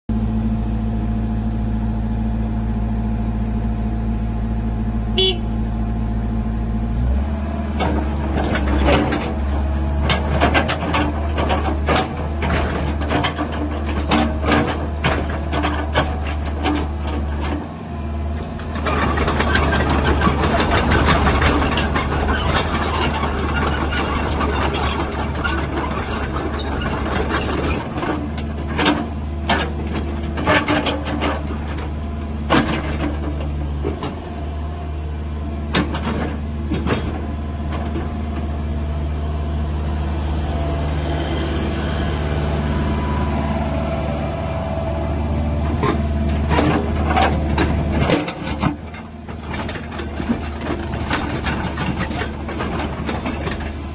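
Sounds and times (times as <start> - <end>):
excavator diesel engine running: 0.1 - 53.9.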